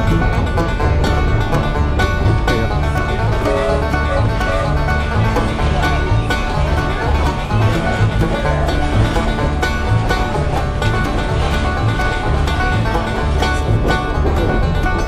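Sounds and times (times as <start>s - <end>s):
upbeat banjo bluegrass music: 0.0s - 15.0s.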